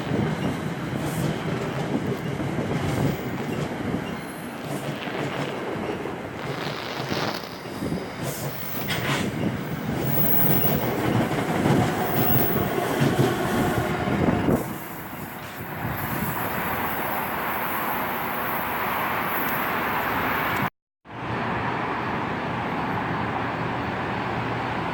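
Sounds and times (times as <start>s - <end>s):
train wheels rumbling on rails: 0.0s - 20.7s.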